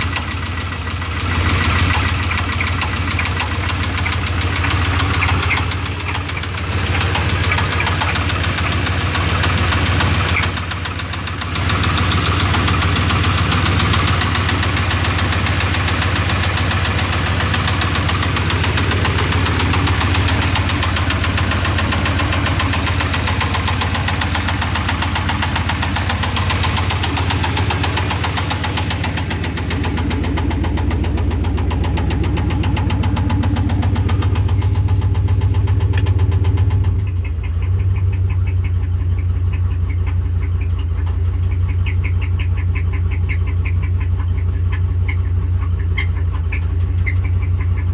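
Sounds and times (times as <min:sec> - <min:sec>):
engine running with rapid knock: 0:00.0 - 0:47.9.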